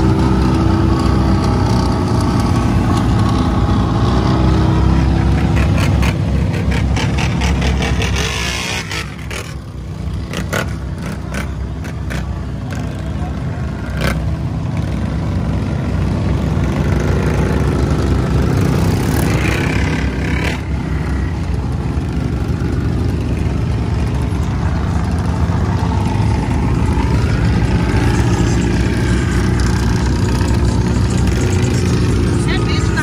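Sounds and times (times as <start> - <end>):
vehicle engines rumbling: 0.0 - 33.0.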